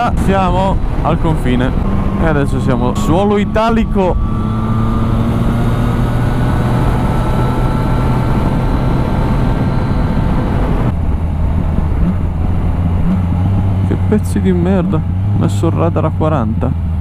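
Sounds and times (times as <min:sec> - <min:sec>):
wind rush over microphone: 0:00.0 - 0:13.9
motorcycle engine cruising: 0:00.0 - 0:17.0.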